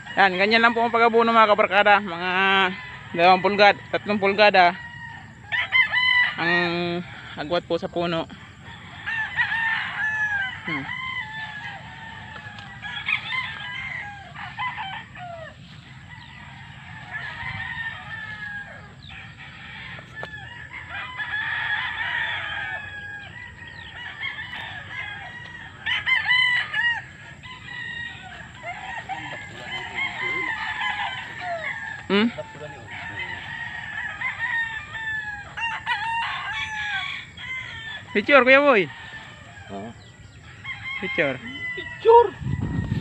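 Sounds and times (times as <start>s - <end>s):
roosters crowing: 0.0s - 43.0s.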